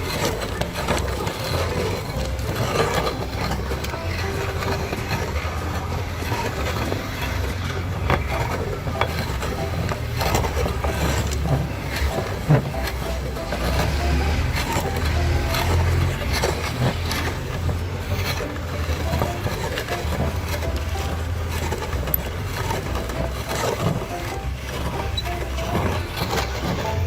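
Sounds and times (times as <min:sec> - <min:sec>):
meat grinder motor humming: 0:00.0 - 0:27.0.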